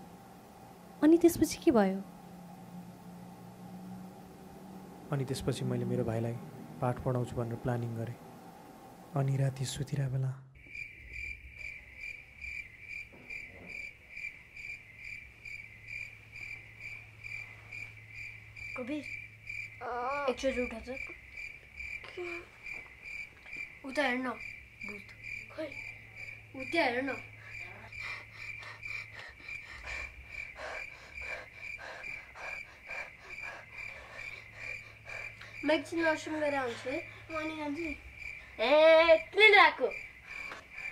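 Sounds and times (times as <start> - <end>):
low steady hum: 0.0 - 40.9
cricket chirping: 0.2 - 40.9.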